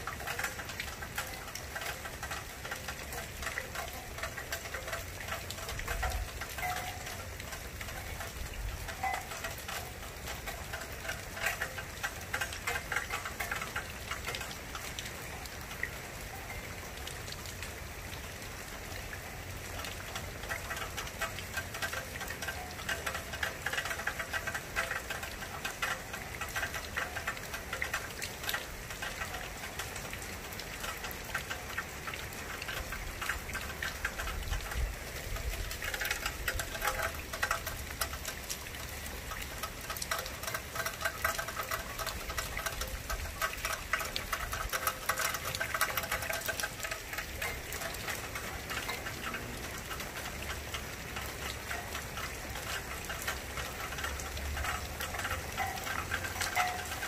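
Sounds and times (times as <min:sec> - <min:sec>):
raindrops pattering on a surface: 0:00.0 - 0:57.0
steady rain falling: 0:00.0 - 0:57.0.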